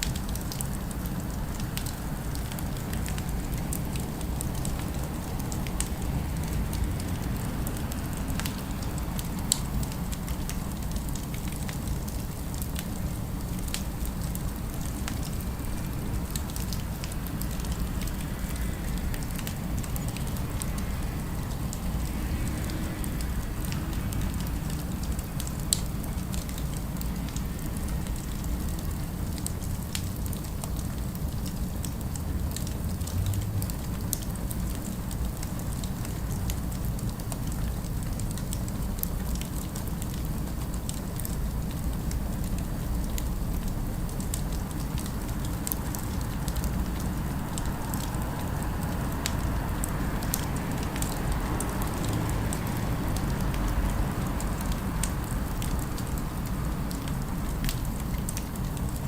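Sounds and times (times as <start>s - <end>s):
fire crackling: 0.0s - 59.0s.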